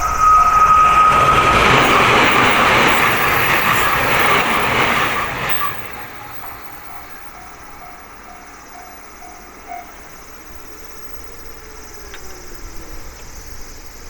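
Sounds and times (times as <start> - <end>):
crossing alarm ringing: 0.0 - 12.2
train wheels rushing past: 0.0 - 14.0.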